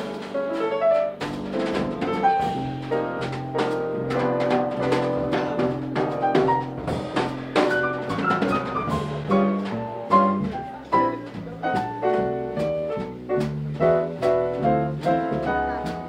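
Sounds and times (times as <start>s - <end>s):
bass line: 0.0s - 16.0s
jazz piano trio playing: 0.0s - 16.0s.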